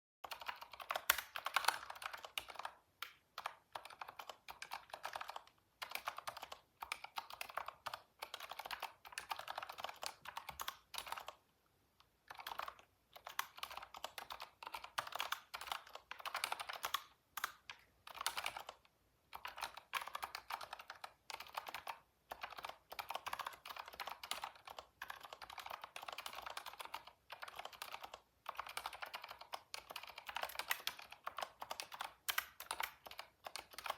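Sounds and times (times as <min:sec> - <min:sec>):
computer keyboard typing: 0:00.2 - 0:11.4, 0:12.2 - 0:33.9.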